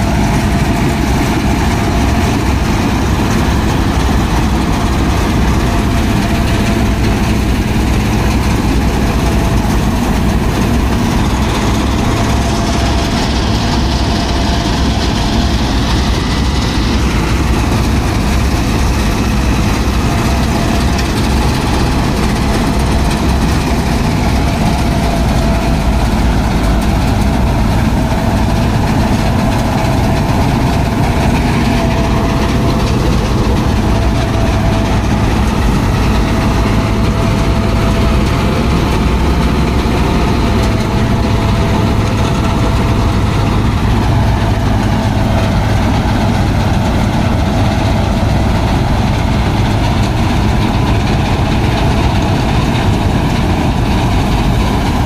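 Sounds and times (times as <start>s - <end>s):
diesel engine drone: 0.0s - 55.0s
machine whine: 0.0s - 55.0s.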